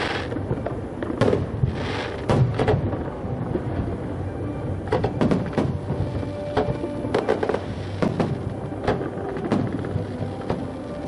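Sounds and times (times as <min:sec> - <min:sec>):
crackling hiss of fireworks: 0:00.0 - 0:11.0.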